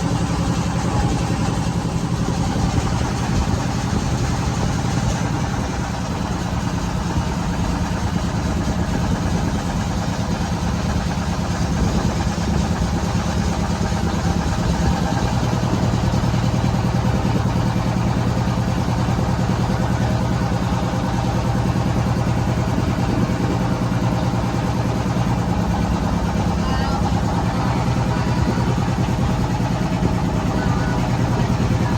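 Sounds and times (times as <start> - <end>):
motorboat engine running: 0.0 - 31.9.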